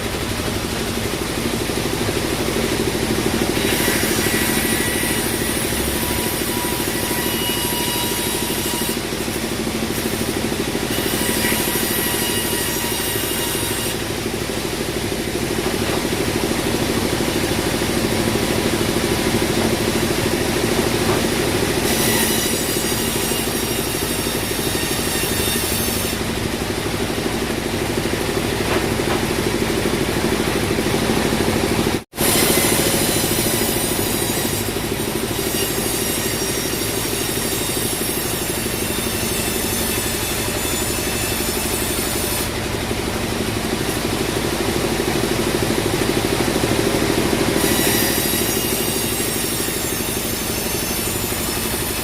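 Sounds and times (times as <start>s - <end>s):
band sawmill running: 0.0s - 52.0s
saw blade cutting log: 0.0s - 52.0s.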